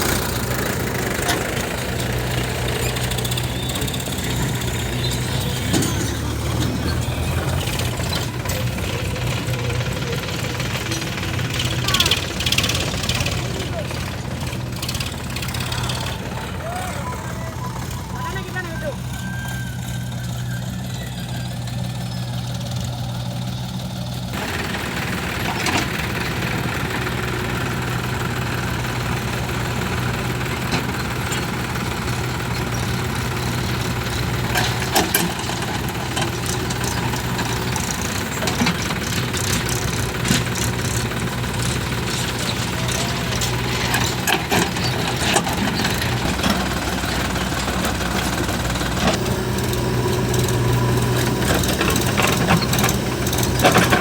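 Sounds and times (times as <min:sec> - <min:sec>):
knocks and clanks: 0:00.0 - 0:23.2, 0:29.8 - 0:54.0
diesel engine running: 0:00.0 - 0:54.0
rattling: 0:00.0 - 0:54.0.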